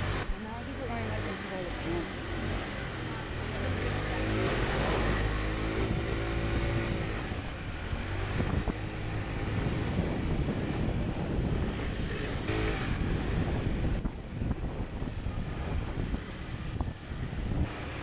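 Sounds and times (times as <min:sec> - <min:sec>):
motor scooter engine running: 0:00.0 - 0:18.0
road rumble: 0:00.0 - 0:18.0
wind noise on microphone: 0:00.0 - 0:18.0.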